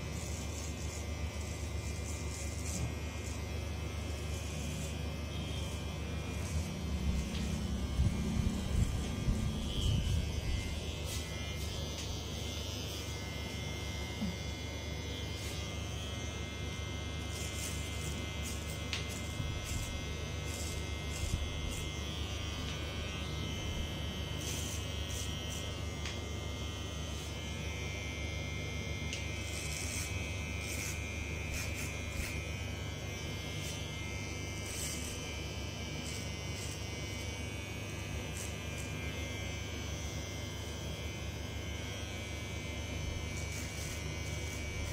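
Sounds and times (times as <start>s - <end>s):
electric hair clipper buzzing: 0.0s - 44.9s.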